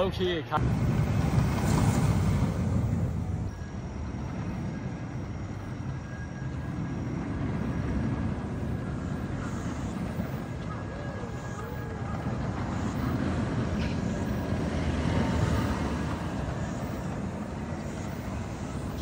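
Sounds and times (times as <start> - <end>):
roller coaster rumbling on track: 0.0 - 19.0.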